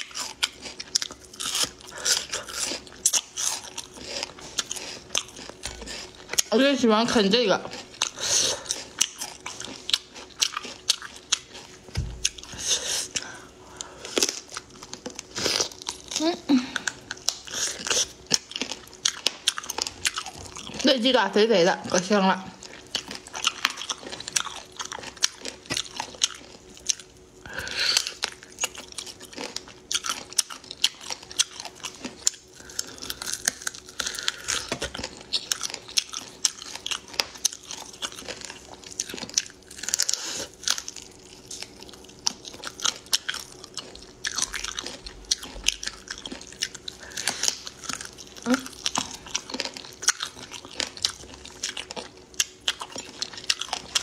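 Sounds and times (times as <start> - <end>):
person chewing crunchy food: 0.0 - 6.6, 7.6 - 20.9, 22.5 - 54.0.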